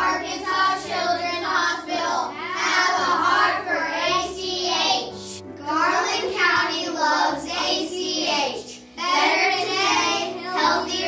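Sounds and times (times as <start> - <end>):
children singing: 0.0 - 11.0
musical accompaniment: 0.0 - 11.0.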